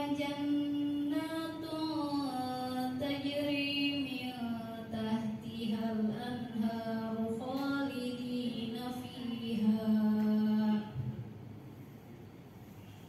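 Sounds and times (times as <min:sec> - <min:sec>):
woman reciting melodically: 0:00.0 - 0:11.2.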